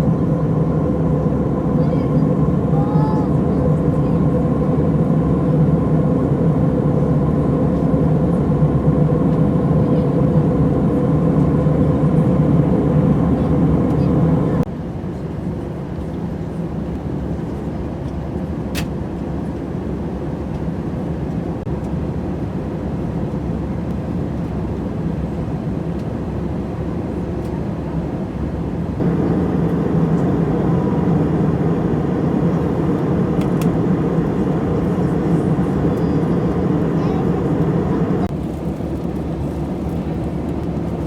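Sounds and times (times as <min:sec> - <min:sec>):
airplane cabin engine hum: 0:00.0 - 0:41.0.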